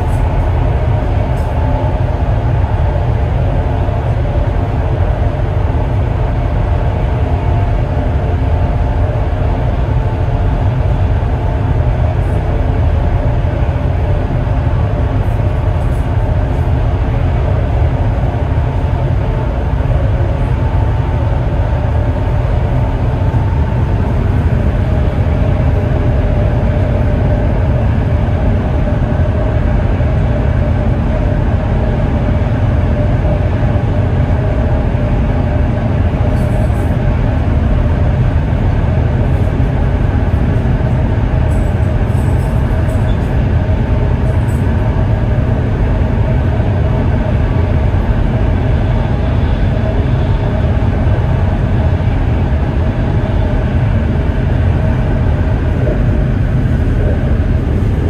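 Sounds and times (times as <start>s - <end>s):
train rumble inside carriage: 0.0s - 58.0s.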